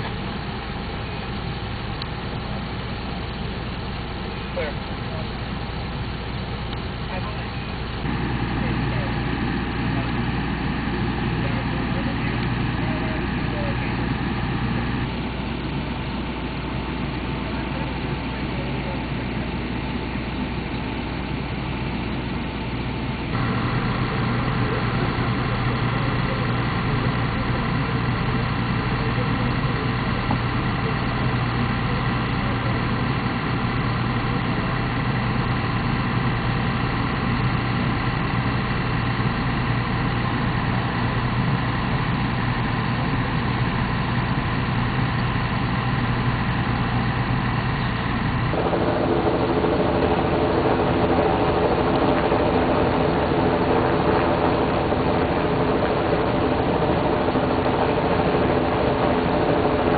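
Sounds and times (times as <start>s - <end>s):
large engine idling: 0.0s - 59.9s.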